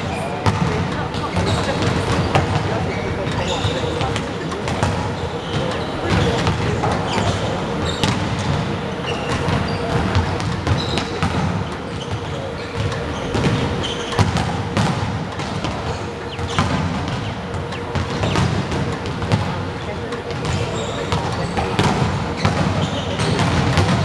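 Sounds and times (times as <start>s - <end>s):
murmur of voices: 0.0s - 24.0s
thuds echoing in a hall: 0.0s - 24.0s.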